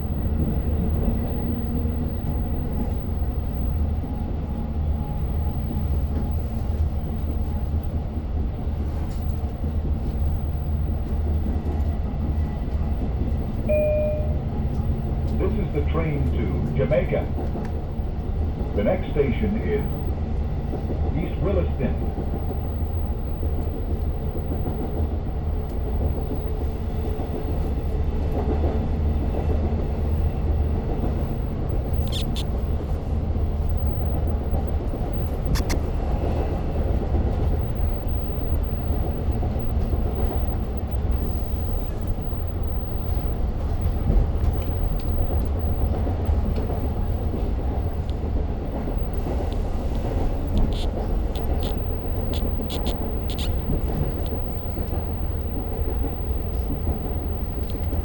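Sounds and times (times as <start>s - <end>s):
train clicks and rattles: 0.0s - 58.0s
train interior rumble: 0.0s - 58.0s.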